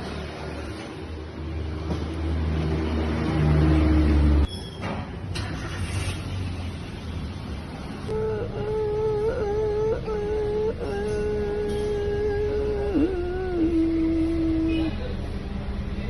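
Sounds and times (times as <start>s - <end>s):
workshop noise: 0.0s - 16.0s.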